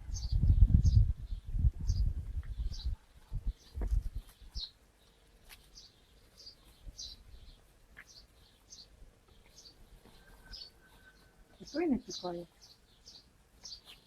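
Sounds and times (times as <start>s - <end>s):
small bird chirping: 0.1s - 14.0s.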